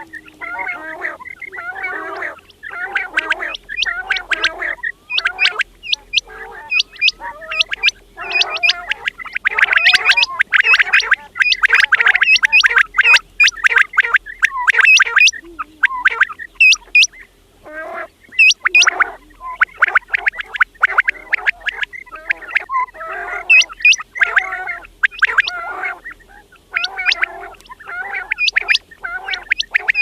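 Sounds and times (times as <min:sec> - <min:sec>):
quails calling: 0:00.0 - 0:30.0.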